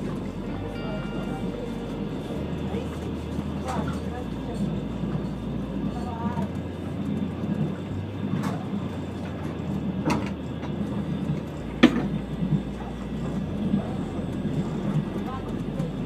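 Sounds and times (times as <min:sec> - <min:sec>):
train carriage rumble: 0:00.0 - 0:16.0.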